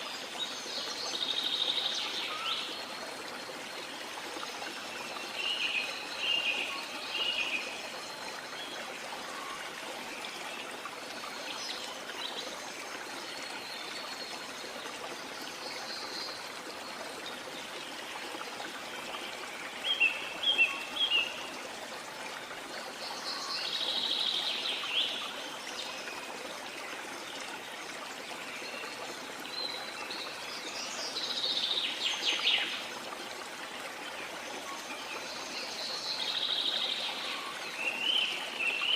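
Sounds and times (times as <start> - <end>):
rush of water: 0.0 - 38.9.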